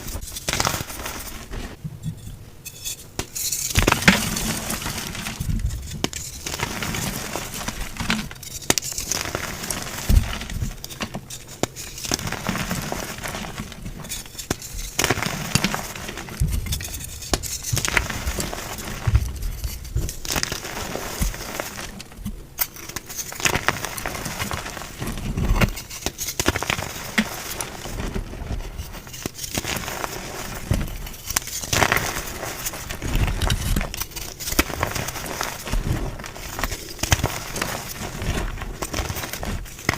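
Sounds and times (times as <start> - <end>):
chalk blocks crunching: 2.8 - 39.9.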